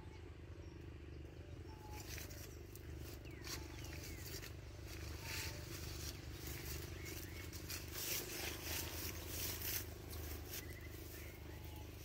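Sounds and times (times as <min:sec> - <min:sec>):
birds whistling and chirping: 0:00.0 - 0:12.0
steady low rumble: 0:00.0 - 0:12.0.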